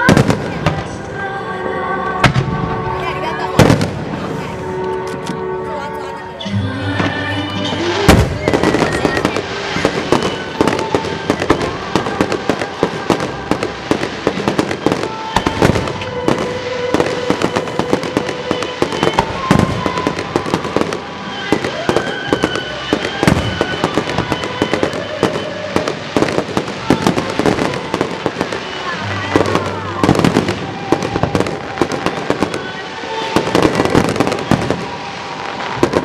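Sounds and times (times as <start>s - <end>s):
fireworks loud bangs: 0.0s - 1.3s, 2.1s - 5.9s, 7.0s - 36.0s
fireworks crackling and popping: 0.0s - 36.0s.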